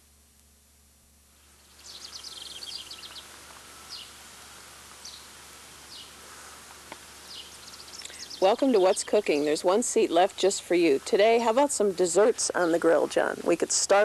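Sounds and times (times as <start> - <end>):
steady low background hiss: 0.0 - 14.0
birds chirping: 1.4 - 14.0.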